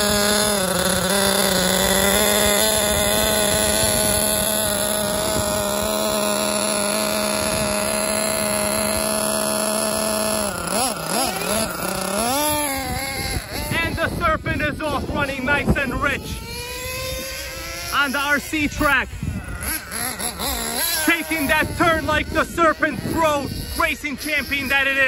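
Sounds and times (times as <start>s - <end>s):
small nitro engine idling: 0.0s - 25.0s.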